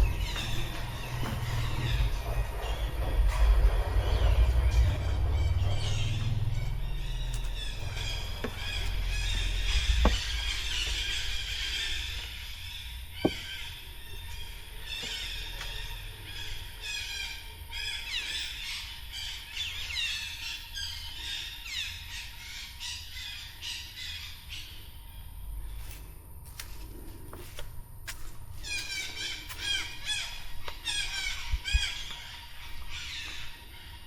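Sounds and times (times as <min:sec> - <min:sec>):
birds chattering and calling: 0:00.0 - 0:34.0.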